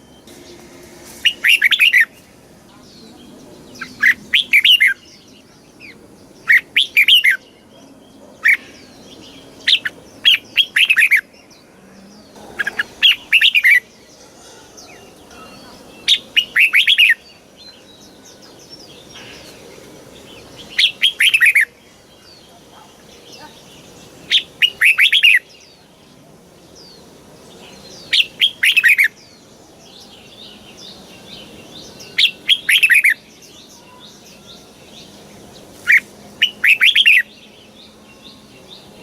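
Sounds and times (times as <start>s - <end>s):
bird singing: 0.0s - 39.0s.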